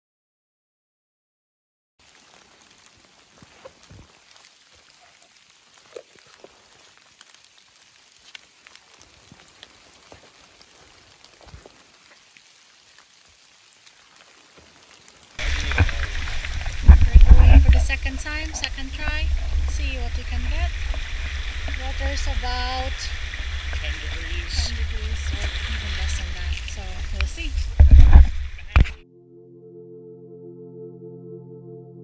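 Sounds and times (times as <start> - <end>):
patter of drops and ticks: 2.0 - 29.0
soft hiss: 2.0 - 29.0.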